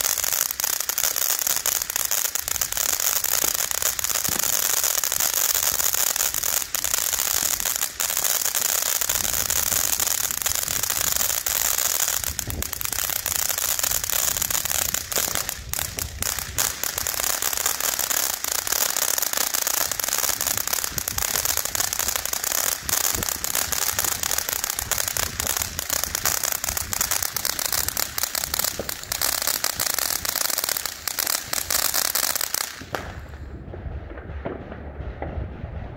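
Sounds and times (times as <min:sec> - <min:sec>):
firework fountain hissing and crackling: 0:00.0 - 0:33.6.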